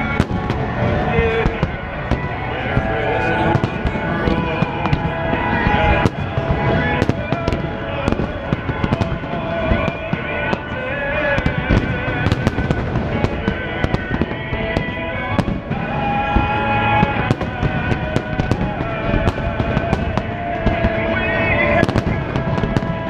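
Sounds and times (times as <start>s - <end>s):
fireworks bangs and crackles: 0.0s - 23.0s
melodic music: 0.0s - 23.0s.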